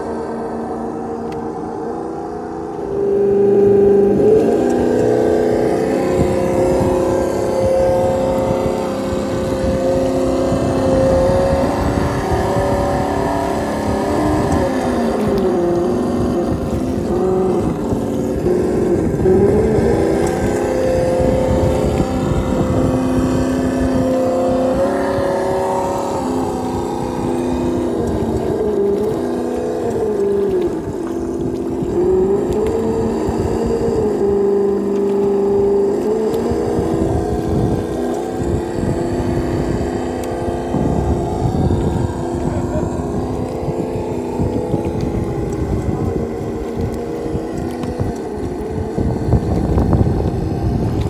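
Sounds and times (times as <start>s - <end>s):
low rumbling: 0.0s - 51.0s.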